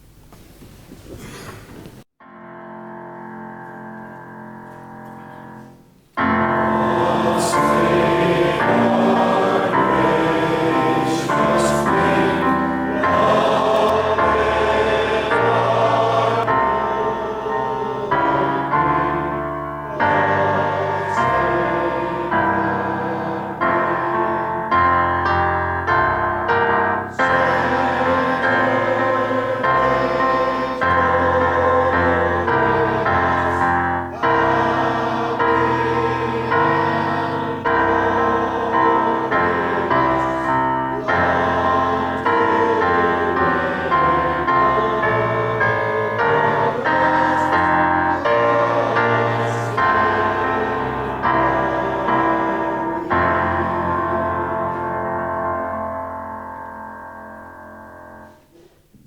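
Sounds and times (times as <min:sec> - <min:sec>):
slow hymn on piano: 0:00.0 - 0:59.0
voices singing along: 0:06.2 - 0:55.8.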